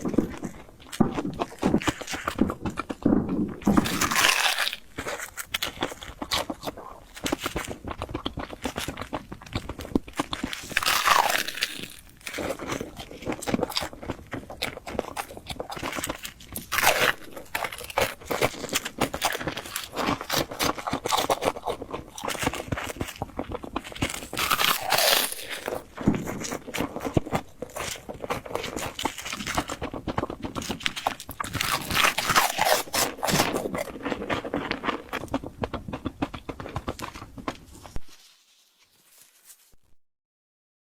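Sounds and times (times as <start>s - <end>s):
chewing crunchy fried bread: 0.0s - 39.8s.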